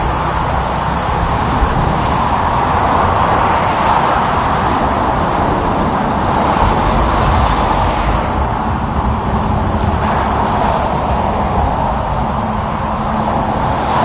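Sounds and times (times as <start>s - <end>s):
engine rumble of passing vehicles: 0.0s - 14.0s.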